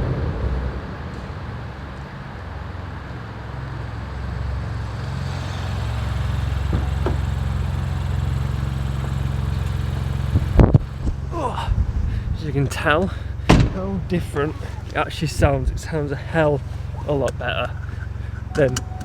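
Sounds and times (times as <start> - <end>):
car engine running: 3.4 - 19.0.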